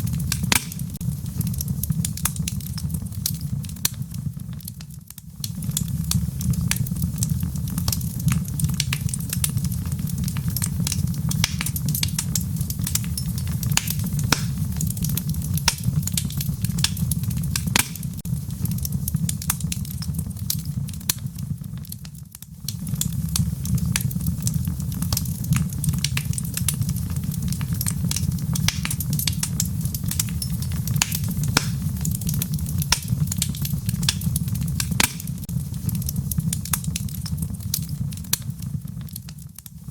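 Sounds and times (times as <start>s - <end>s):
fire low rumble: 0.0s - 39.9s
wood fire crackling: 0.0s - 39.9s.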